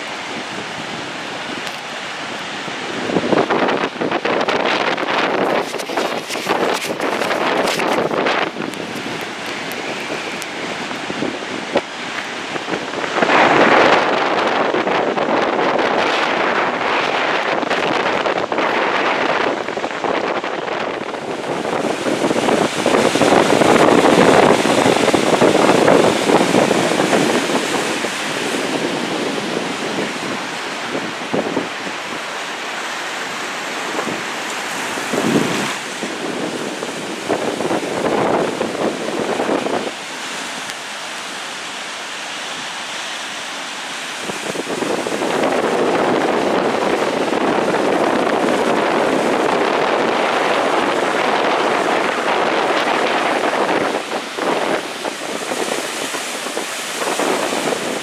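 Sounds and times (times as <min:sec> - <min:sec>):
wind buffeting microphone: 0:00.0 - 0:40.9, 0:44.0 - 0:58.0
waves surging and breaking: 0:00.0 - 0:58.0.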